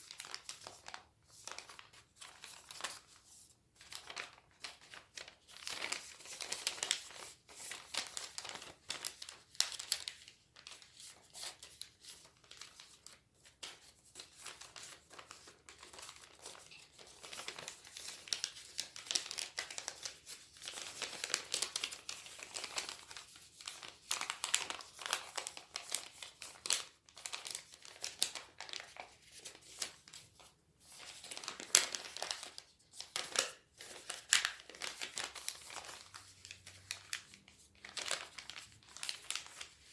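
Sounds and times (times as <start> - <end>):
paper crinkling and rustling: 0.0 - 39.9.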